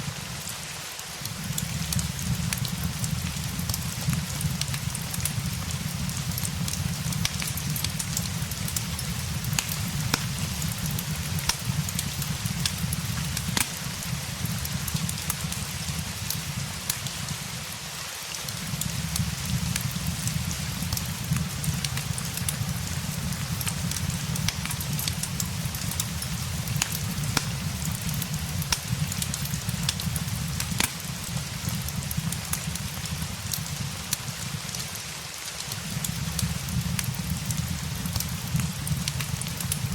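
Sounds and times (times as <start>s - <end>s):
rain pattering: 0.0s - 39.9s
fireplace crackling: 0.1s - 39.9s.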